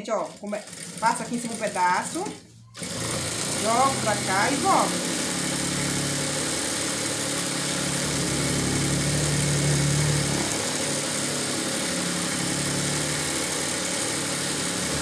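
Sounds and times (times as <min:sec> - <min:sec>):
industrial sewing machine running: 0:00.0 - 0:15.0.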